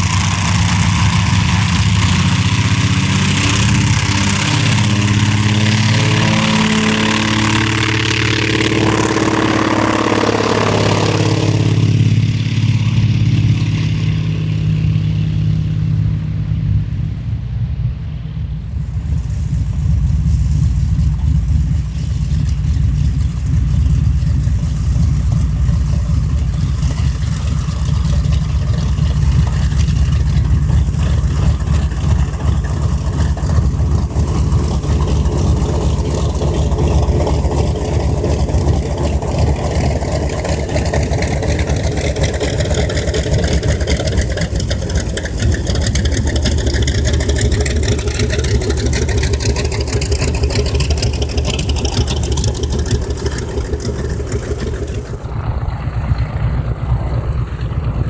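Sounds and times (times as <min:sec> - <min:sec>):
propeller plane passing by: 0:00.0 - 0:58.0
radial engine rumble: 0:00.0 - 0:58.0.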